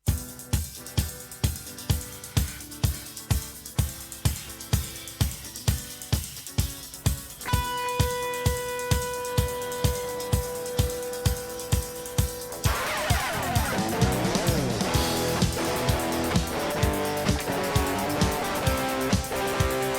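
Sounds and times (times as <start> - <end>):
steady drum beat: 0.0 - 19.9.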